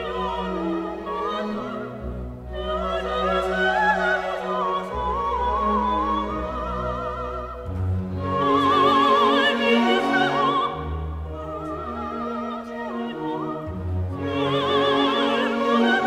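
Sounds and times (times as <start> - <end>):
operatic singing: 0.0 - 16.0
orchestral accompaniment: 0.0 - 16.0.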